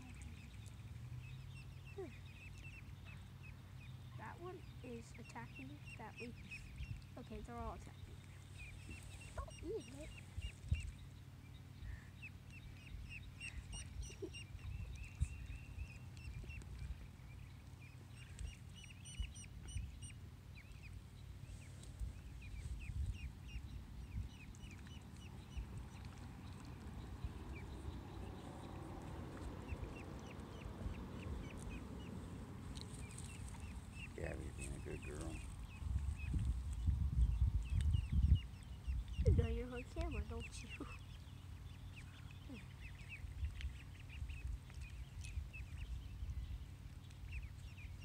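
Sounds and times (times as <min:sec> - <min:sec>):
ducklings peeping: 0:00.0 - 0:48.0
low steady rumble: 0:00.0 - 0:48.0.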